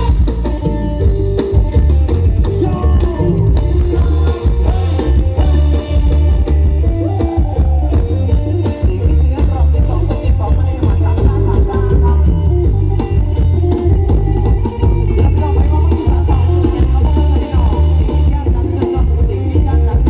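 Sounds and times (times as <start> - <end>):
drum kit: 0.0 - 20.0
electric guitar: 0.0 - 20.0
heavy bass: 0.0 - 20.0
loud live band music: 0.0 - 20.0.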